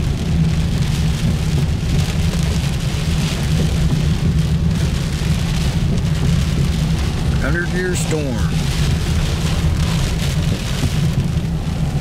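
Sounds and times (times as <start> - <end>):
car driving rumble: 0.0 - 12.0
rain hissing on car: 0.0 - 12.0
tyre spray on wet road: 0.0 - 12.0.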